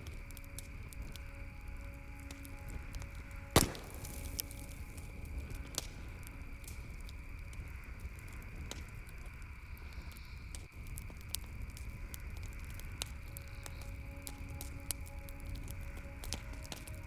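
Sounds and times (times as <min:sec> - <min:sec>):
campfire crackling and popping: 0:00.0 - 0:17.0
loud sharp fire crack: 0:00.0 - 0:17.0.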